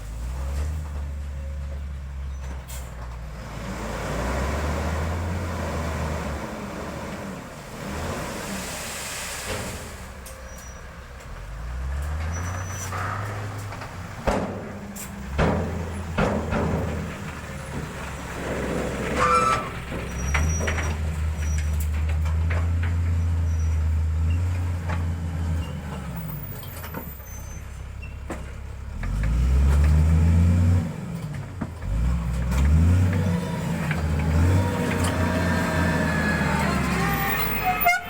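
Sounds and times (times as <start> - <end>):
diesel engine revving: 0.0 - 38.0.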